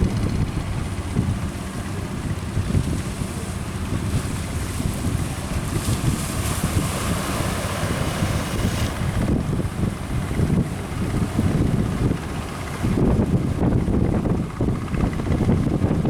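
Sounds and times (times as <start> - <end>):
sea waves: 0.0 - 15.6
surf wash: 0.0 - 16.0
wind rumbling on microphone: 0.0 - 16.0.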